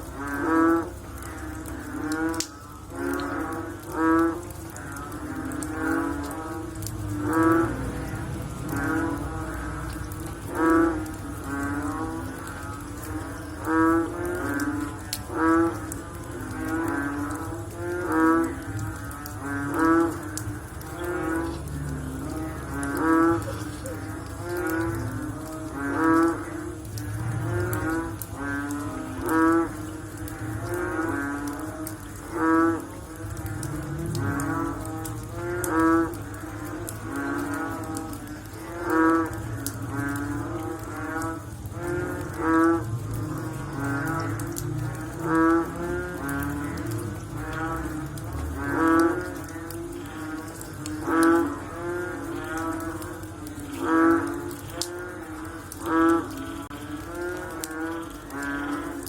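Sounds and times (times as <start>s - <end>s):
frogs croaking in chorus: 0.0s - 59.0s
loud frog call: 0.0s - 59.0s.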